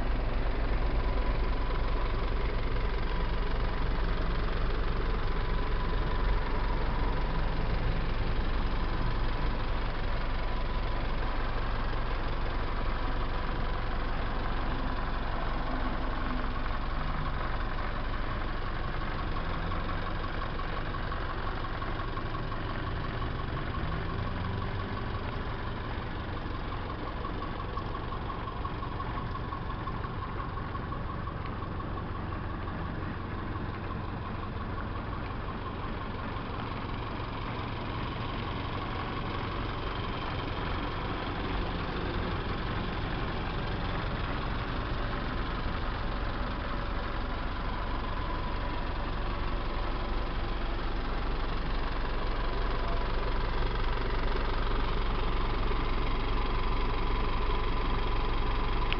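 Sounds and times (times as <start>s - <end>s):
fire truck engine idling: 0.0s - 58.9s.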